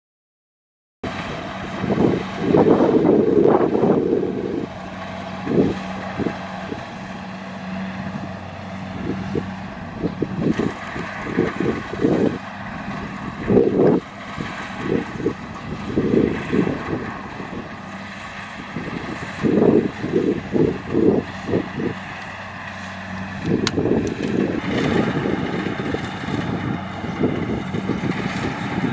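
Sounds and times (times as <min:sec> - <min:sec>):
combine harvester diesel engine: 0:01.0 - 0:28.9
wind buffeting microphone: 0:01.1 - 0:28.9.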